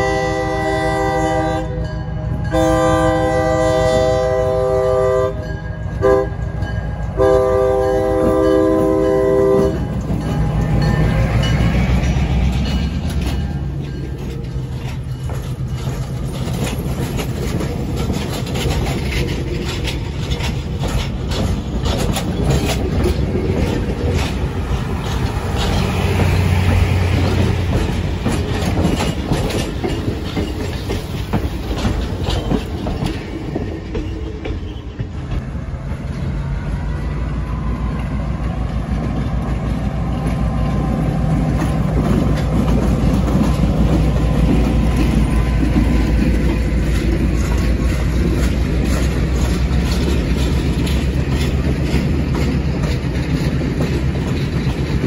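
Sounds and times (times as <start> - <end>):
train rumble: 0.0 - 55.0
train wheels clicking over rail joints: 2.6 - 55.0.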